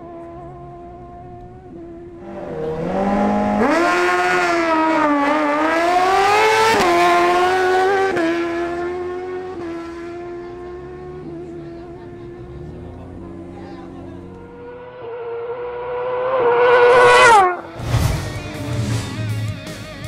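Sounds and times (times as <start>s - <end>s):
motorcycle accelerating hard: 0.0s - 19.2s.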